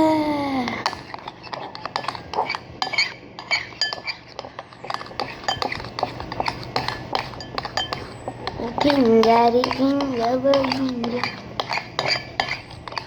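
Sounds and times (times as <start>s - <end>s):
utensil clinking against bowl: 0.7s - 13.0s.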